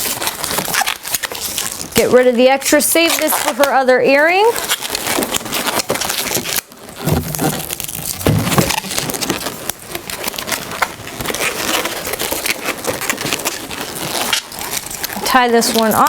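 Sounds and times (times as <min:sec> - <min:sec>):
balloons rubbing and squeaking: 0:00.0 - 0:16.0.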